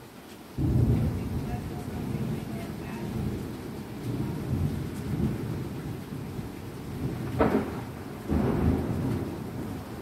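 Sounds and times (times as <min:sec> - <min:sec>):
rain: 0:00.0 - 0:10.0
thunder clap: 0:00.6 - 0:10.0
thunder rumbling: 0:00.6 - 0:10.0.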